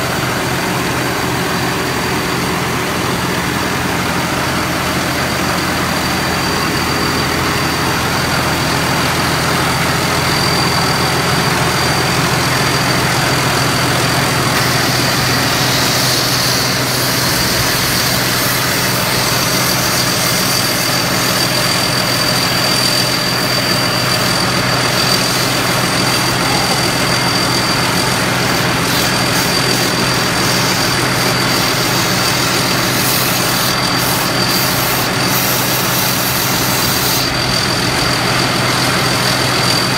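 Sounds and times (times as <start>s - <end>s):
combine harvester engine running: 0.0s - 39.9s
high-pitched whine: 0.0s - 39.9s.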